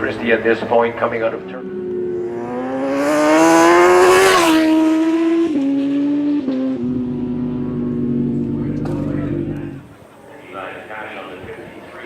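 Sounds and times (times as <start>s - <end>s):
motorcycle engine passing at high revs: 0.0s - 9.9s.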